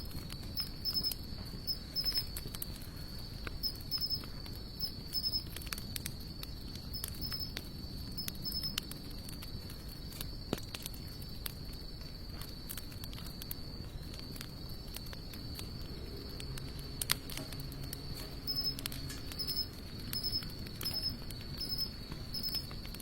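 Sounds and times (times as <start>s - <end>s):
campfire crackling and popping: 0.0s - 23.0s
insect trill: 0.0s - 23.0s.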